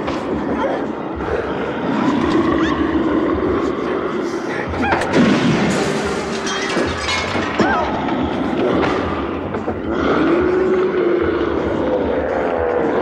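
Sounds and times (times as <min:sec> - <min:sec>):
snarling growl: 0:00.0 - 0:05.3, 0:07.6 - 0:13.0.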